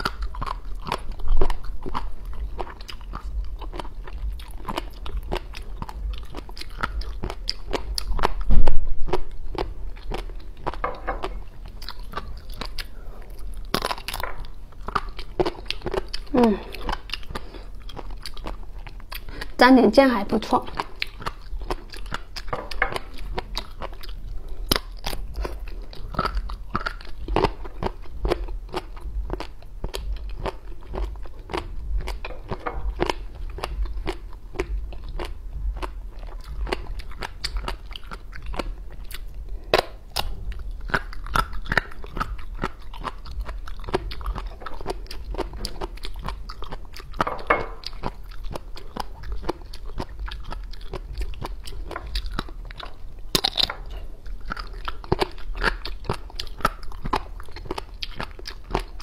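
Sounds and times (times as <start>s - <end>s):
chewing crunches: 0.0s - 19.6s, 20.4s - 59.0s.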